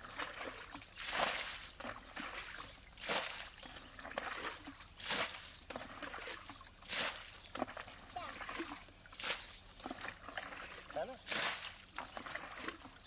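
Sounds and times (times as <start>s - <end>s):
pail scooping water: 0.0s - 13.0s
thrown water splashing: 0.0s - 13.0s.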